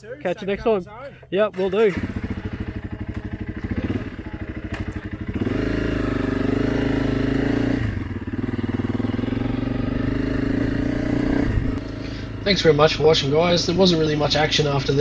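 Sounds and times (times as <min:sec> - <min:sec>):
motorcycle engine idling and pulling away: 0:00.0 - 0:15.0.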